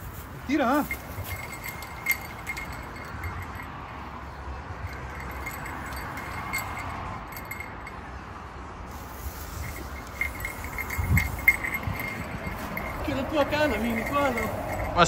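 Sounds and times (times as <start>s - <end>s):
road traffic rumble: 0.0s - 15.0s
faint metallic tinkling: 0.6s - 8.2s, 8.9s - 15.0s.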